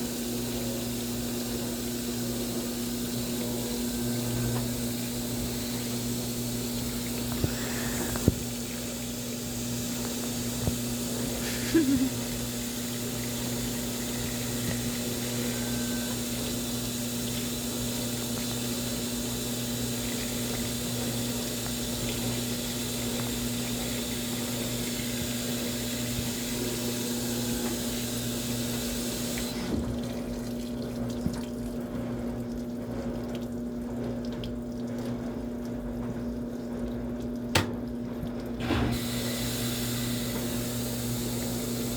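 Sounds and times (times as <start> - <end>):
steady machine hum: 0.0 - 29.6, 37.4 - 41.9
washing machine filling with water: 0.0 - 41.9.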